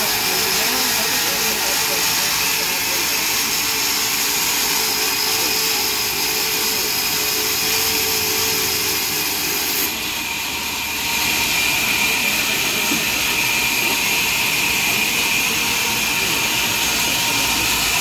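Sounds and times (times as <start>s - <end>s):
band saw whining through timber: 0.0s - 18.0s.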